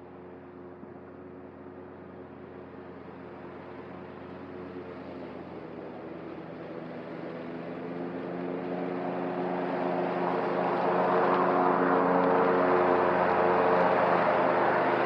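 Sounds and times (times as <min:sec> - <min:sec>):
riding mower running: 0:00.0 - 0:15.0.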